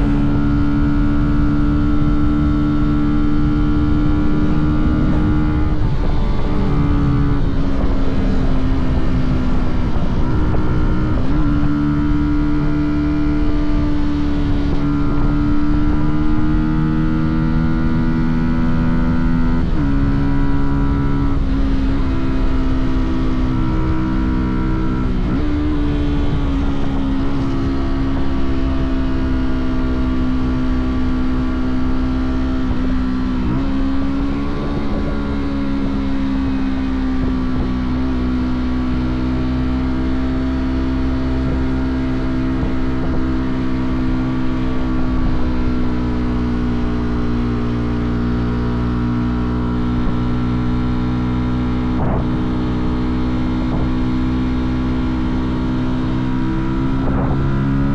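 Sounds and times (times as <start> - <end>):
motorcycle engine and exhaust: 0.0 - 57.9.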